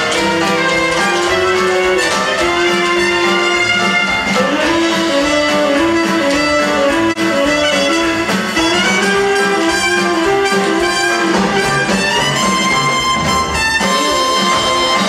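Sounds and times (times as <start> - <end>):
orchestra playing: 0.0 - 15.0.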